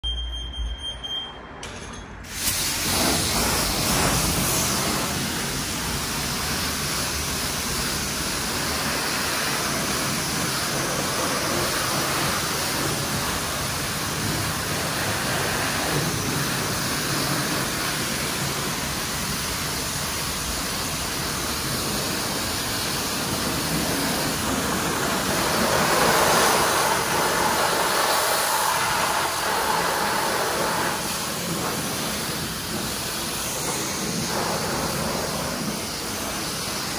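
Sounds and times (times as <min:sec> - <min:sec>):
pressure washer spraying a car: 0:02.2 - 0:36.9.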